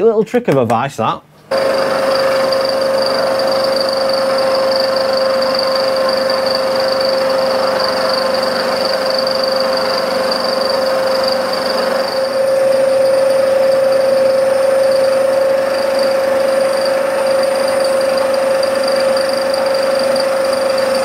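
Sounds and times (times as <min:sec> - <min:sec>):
milling machine whine: 0:01.5 - 0:21.0.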